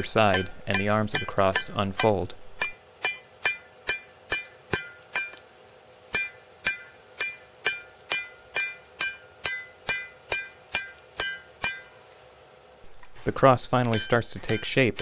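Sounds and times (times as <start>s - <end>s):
hammer striking metal on anvil: 0.0s - 12.1s, 13.8s - 15.0s.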